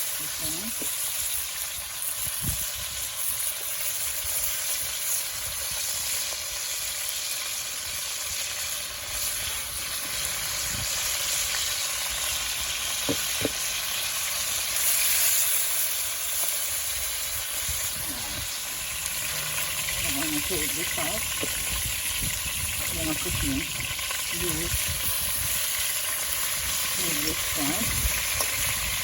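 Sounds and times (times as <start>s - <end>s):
chicken frying in hot oil: 0.0s - 29.0s.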